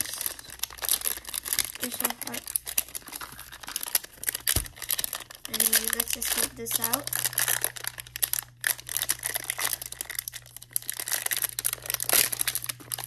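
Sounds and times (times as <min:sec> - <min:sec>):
plastic shrink-wrap crinkling: 0:00.0 - 0:13.0.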